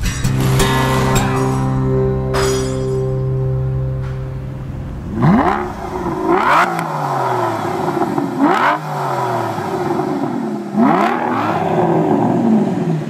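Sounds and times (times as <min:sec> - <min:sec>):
exhaust crackle: 0:00.0 - 0:13.0
car engine revving: 0:00.4 - 0:13.0.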